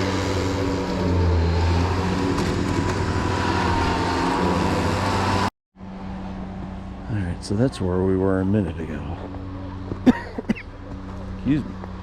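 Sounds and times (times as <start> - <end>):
low vehicle engine hum: 0.0 - 12.0
road noise: 0.0 - 12.0.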